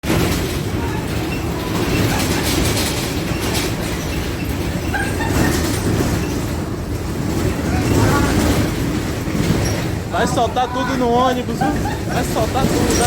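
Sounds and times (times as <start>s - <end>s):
bus interior rumble: 0.0s - 13.0s
loose floor and fittings clattering: 0.0s - 13.0s.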